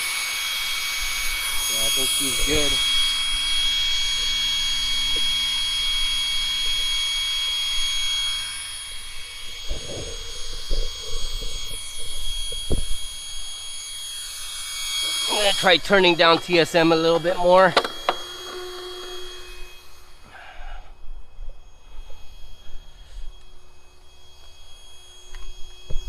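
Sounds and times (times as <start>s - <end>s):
rc car motor whine and hum: 0.0s - 26.0s.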